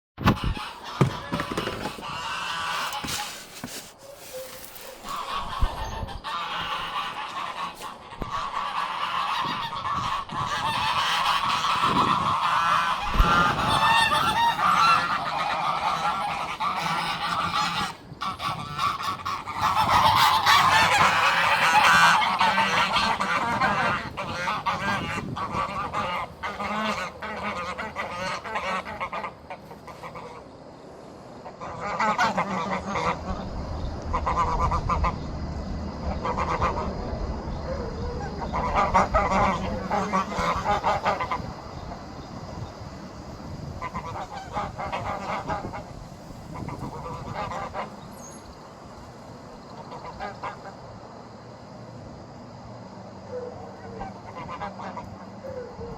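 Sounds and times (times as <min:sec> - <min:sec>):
geese honking: 0:00.2 - 0:30.7, 0:31.3 - 0:42.9, 0:43.7 - 0:48.2, 0:49.7 - 0:51.0, 0:53.3 - 0:55.9.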